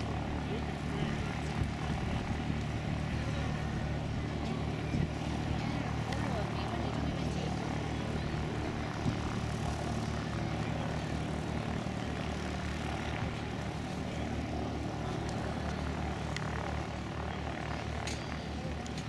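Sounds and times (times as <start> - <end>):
light aircraft engines droning: 0.0 - 19.0.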